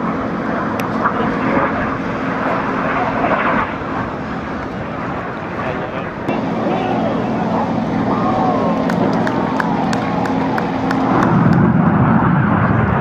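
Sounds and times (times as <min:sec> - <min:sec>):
jet flying past low: 0:00.0 - 0:13.0.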